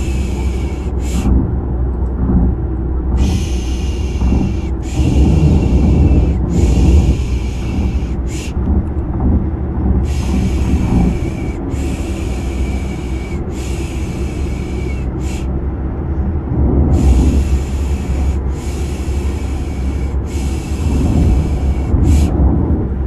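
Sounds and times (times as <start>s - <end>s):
car interior rumble: 0.0s - 23.0s.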